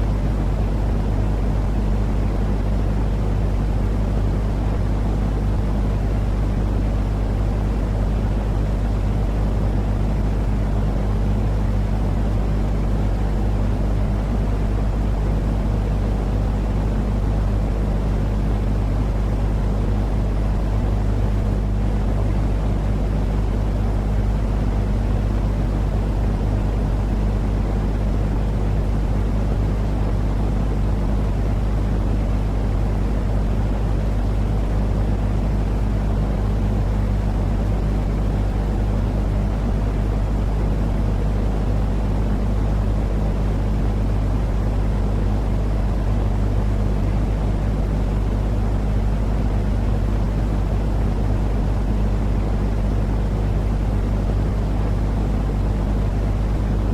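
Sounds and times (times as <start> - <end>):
steady low rumbling noise: 0.0 - 56.9.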